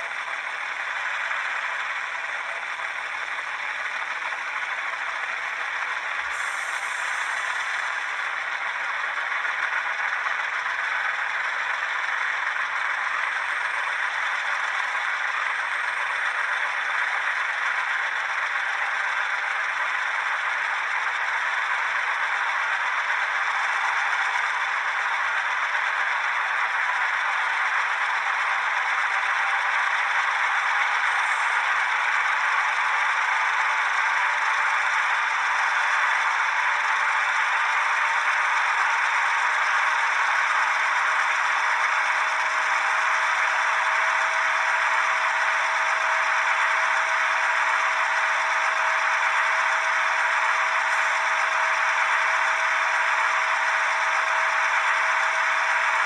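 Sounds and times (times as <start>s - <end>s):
model train diesel engine sound: 0.0s - 56.0s.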